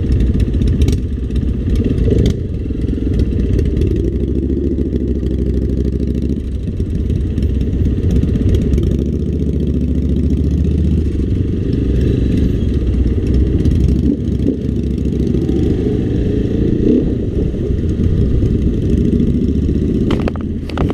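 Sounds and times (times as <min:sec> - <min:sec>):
dirt bike engine running: 0:00.0 - 0:20.9.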